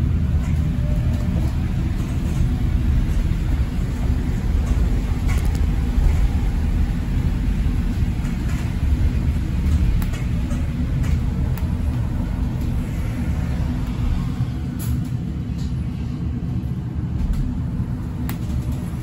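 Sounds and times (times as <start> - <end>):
bus road rumble: 0.0 - 19.0.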